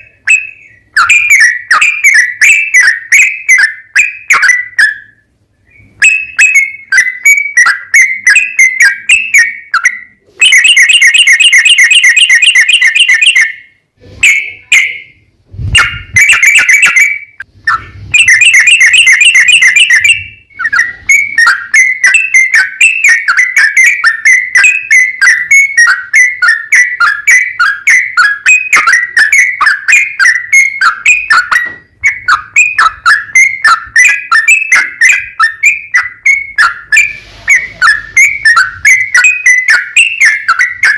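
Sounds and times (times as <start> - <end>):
bird singing chattering trills: 0.0 - 40.9.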